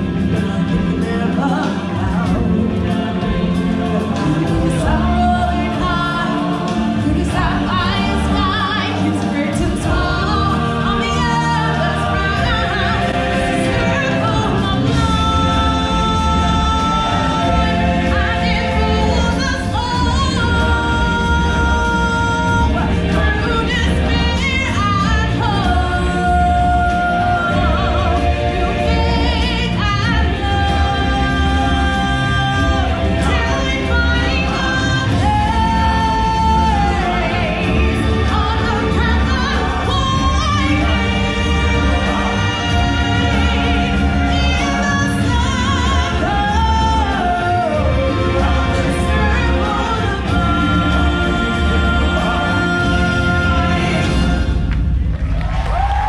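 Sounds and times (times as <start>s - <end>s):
choir and solo voices singing: 0.0s - 54.8s
strong bass music: 0.0s - 56.0s.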